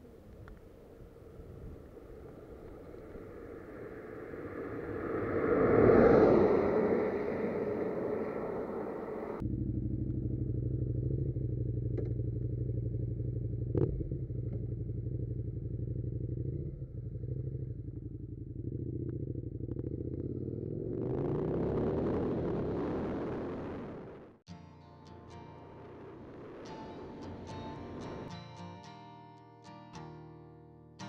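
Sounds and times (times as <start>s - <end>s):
wind and road noise: 0.0s - 24.4s, 25.6s - 28.7s
motorcycle engine accelerating: 1.2s - 24.4s, 25.6s - 28.8s.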